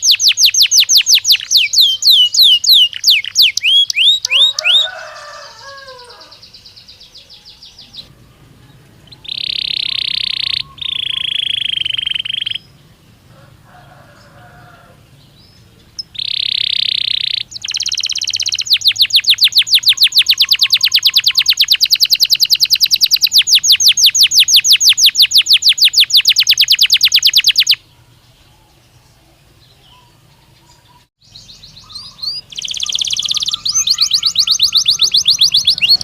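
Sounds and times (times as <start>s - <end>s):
canary song with trills: 0.0s - 36.0s.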